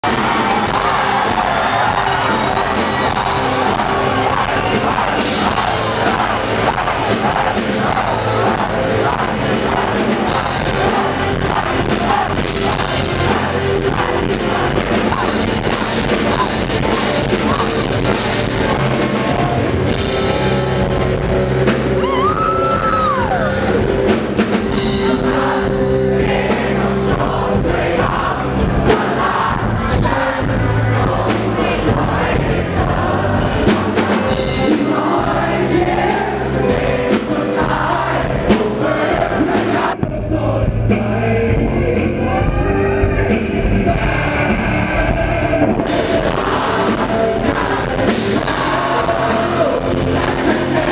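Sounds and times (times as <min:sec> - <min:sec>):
live rock band playing: 0:00.0 - 0:50.9
man singing lead: 0:00.0 - 0:50.9.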